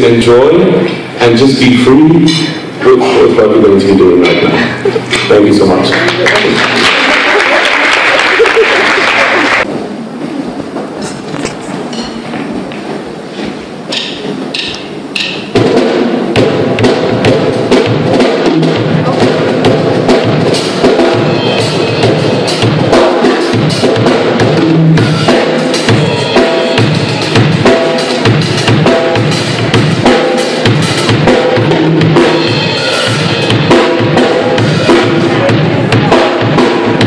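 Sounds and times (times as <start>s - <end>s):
live band with drum kit: 0.0s - 37.0s.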